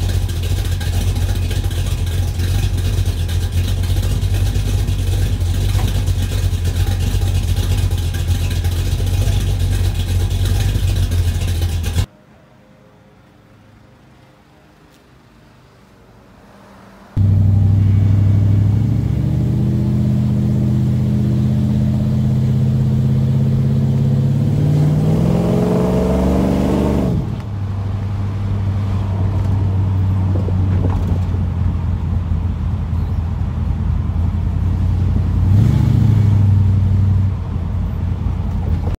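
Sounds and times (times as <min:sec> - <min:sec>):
car engine droning: 0:00.0 - 0:12.1, 0:16.4 - 0:39.0.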